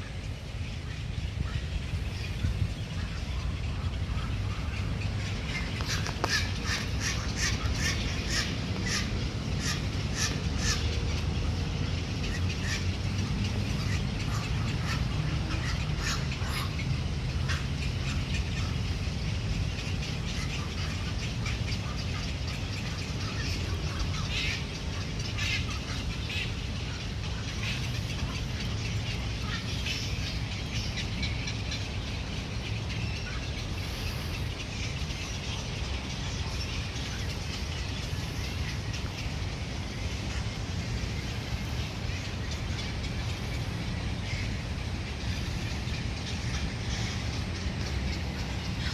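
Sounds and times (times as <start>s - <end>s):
steady low rumble: 0.0s - 48.9s
birds chirping: 0.1s - 48.9s.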